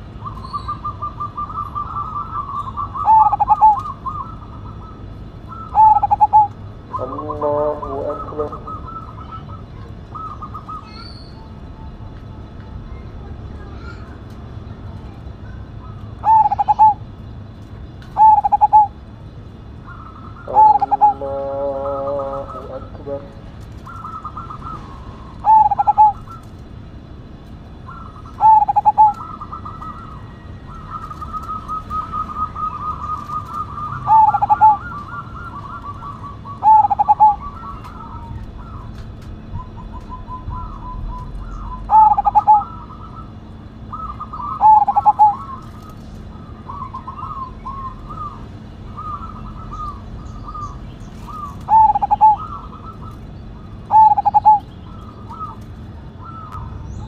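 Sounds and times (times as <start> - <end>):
dove cooing: 0.0 - 12.1, 15.4 - 17.2, 18.0 - 26.9, 27.7 - 57.0.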